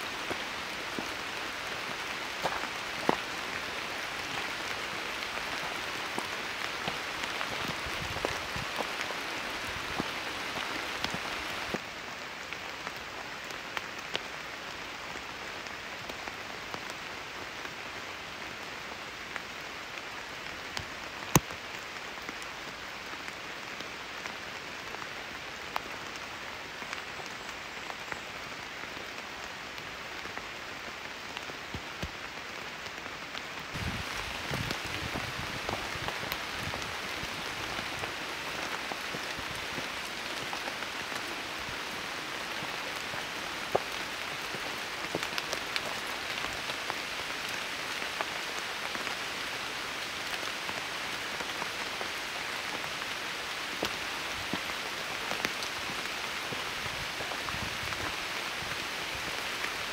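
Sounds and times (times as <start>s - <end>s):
rain falling through foliage: 0.0s - 59.9s.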